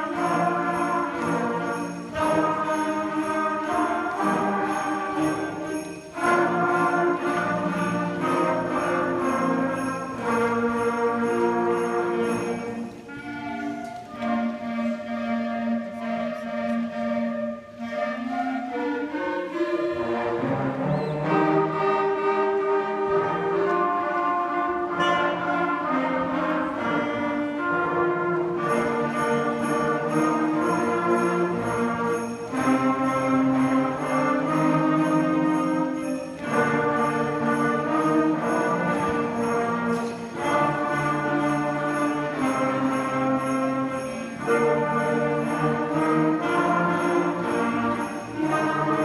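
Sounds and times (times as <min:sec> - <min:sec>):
sleigh bells jingling: 0:00.0 - 0:15.7, 0:19.5 - 0:49.0.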